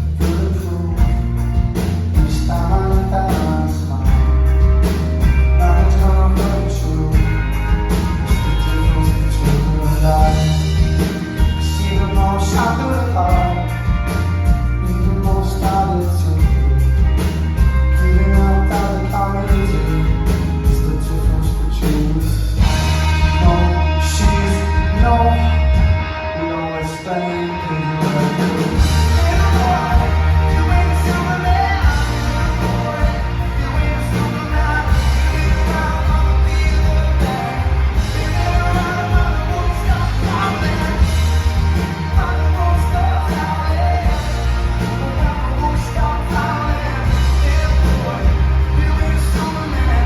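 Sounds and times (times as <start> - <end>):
drum kit beat: 0.0 - 26.0, 28.0 - 50.0
heavy bass notes: 0.0 - 50.0
live rock band playing: 0.0 - 50.0
person singing: 0.0 - 50.0.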